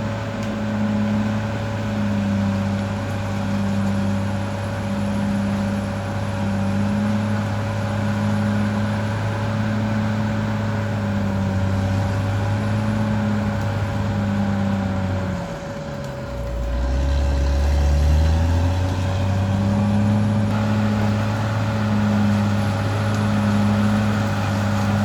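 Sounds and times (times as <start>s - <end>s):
bulldozer diesel engine running: 0.0s - 25.0s
steady engine whine: 0.0s - 25.0s.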